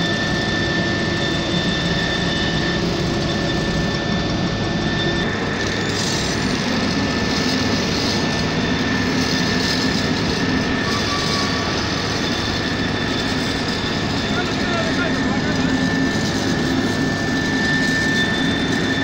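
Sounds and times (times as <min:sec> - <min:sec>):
paving machinery engines running: 0:00.0 - 0:19.0
thin high whine: 0:00.0 - 0:19.0.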